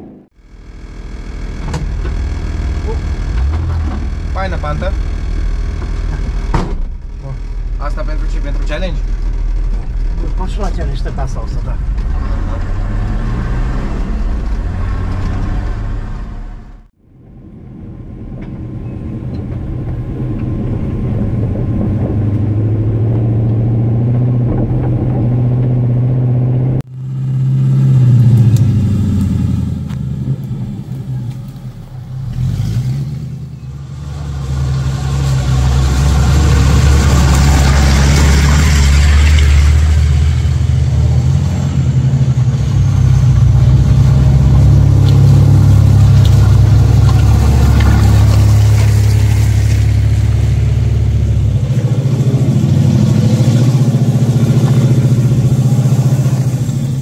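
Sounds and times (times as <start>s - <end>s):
off-road engine revving: 0.0s - 17.0s, 17.7s - 57.0s.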